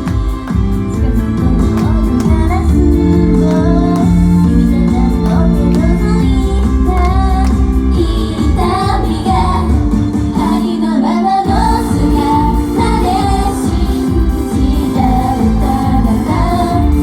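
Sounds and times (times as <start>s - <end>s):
backing music with bass: 0.0s - 17.0s
woman singing pop song: 0.0s - 17.0s.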